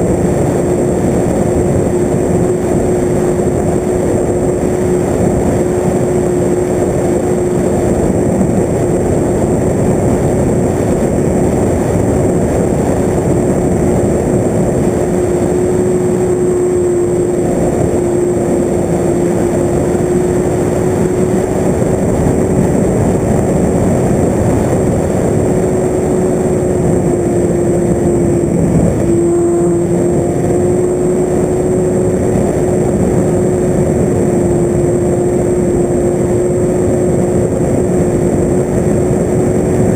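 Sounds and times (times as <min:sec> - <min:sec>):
model aircraft motor and propeller: 0:00.0 - 0:39.9.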